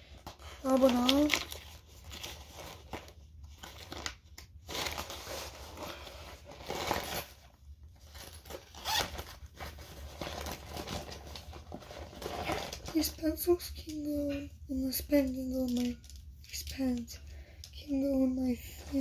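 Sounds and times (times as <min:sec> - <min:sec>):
papers rustling and crinkling: 0:00.0 - 0:19.0.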